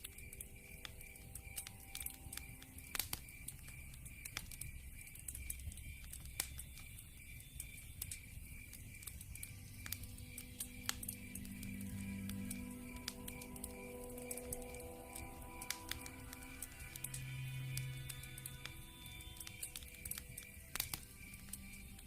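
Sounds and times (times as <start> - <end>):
insect chirping: 0.0 - 22.0
log fire crackling: 0.0 - 22.0.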